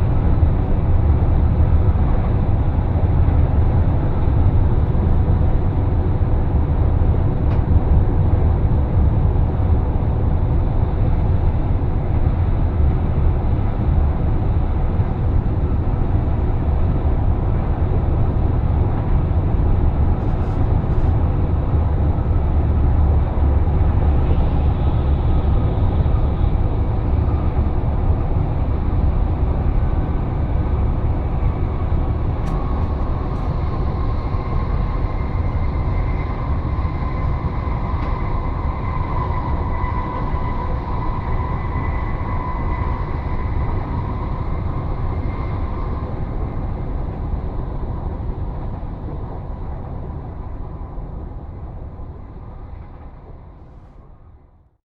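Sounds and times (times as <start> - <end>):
train wheels rumbling on rail: 0.0 - 54.4.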